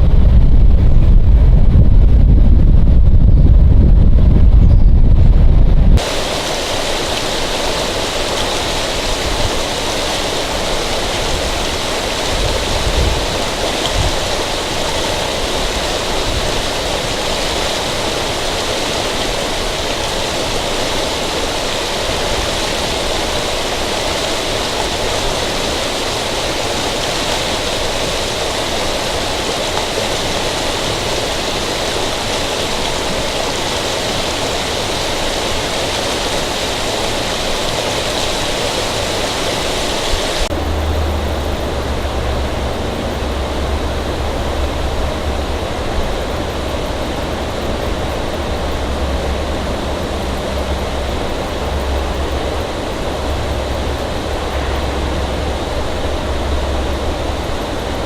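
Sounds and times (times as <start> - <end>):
wind rumble on microphone: 0.0 - 58.0
rushing water: 6.0 - 58.0.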